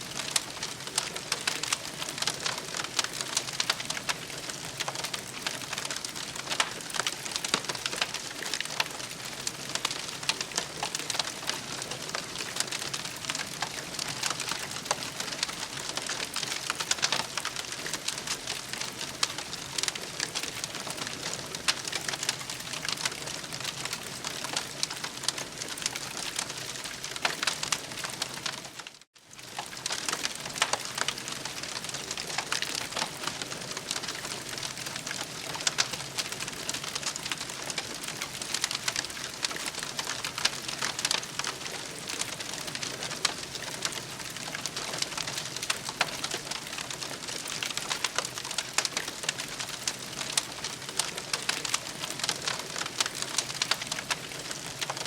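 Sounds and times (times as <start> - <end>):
campfire crackling and hissing: 0.0 - 55.0.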